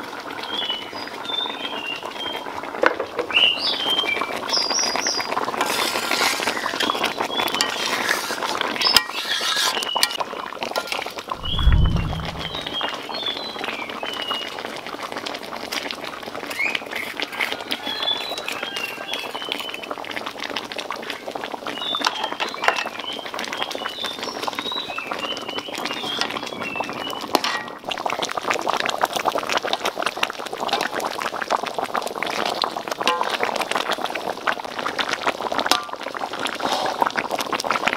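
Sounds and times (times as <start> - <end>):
stew bubbling in a wok: 0.0 - 37.9.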